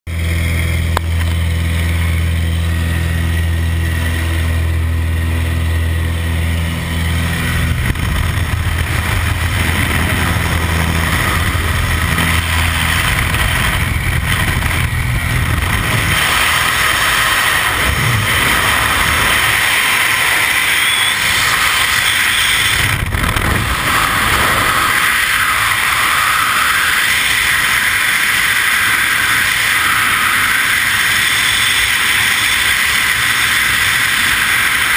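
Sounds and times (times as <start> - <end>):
aircraft engine and propeller drone: 0.1 - 34.9
freefall wind rush: 0.1 - 34.9.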